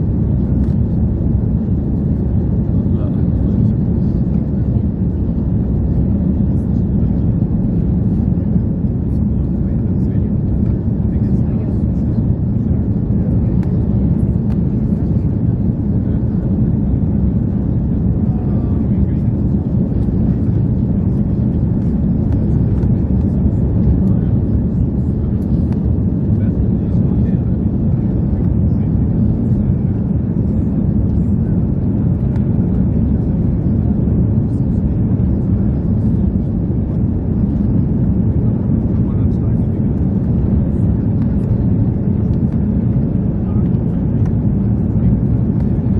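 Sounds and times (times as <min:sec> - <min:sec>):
jet engines rumbling: 0:00.0 - 0:45.9.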